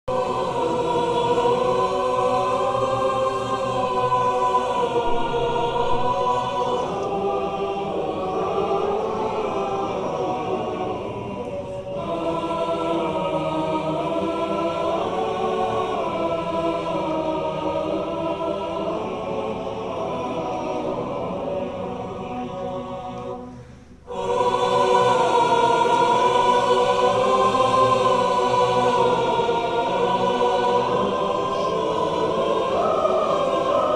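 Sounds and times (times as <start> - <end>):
choir singing in harmony: 0.0 - 33.9.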